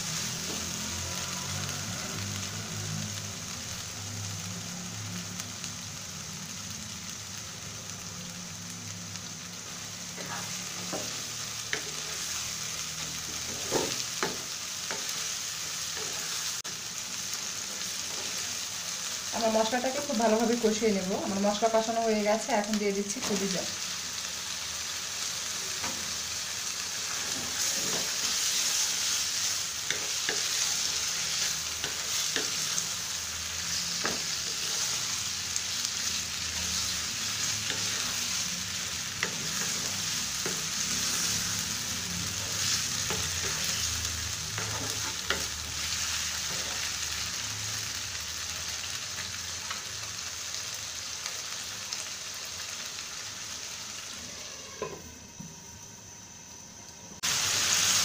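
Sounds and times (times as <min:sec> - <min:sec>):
meat sizzling in oil: 0:00.0 - 0:55.0, 0:56.3 - 0:58.0.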